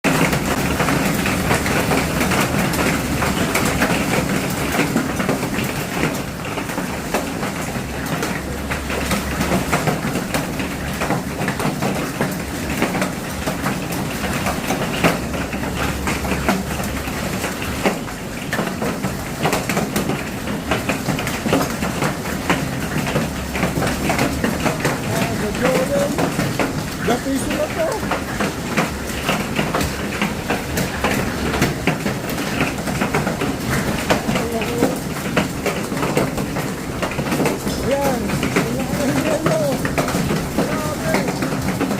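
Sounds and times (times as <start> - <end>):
hailstones pelting hard surfaces: 0.0 - 41.9.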